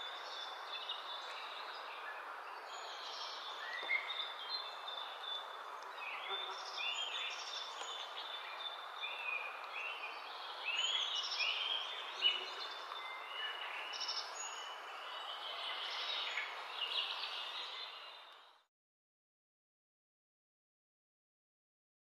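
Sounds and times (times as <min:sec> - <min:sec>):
wild birds chirping and whistling: 0:00.0 - 0:18.6
steady outdoor hiss: 0:00.0 - 0:18.7.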